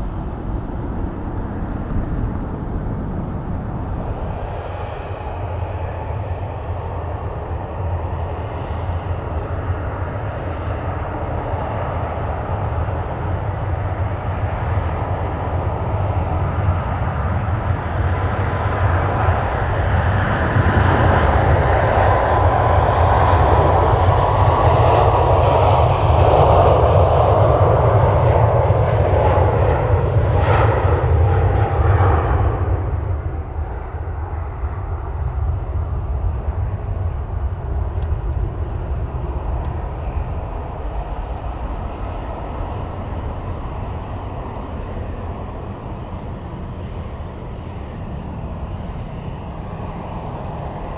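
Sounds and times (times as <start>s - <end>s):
jet airliner engines: 0.0s - 50.9s.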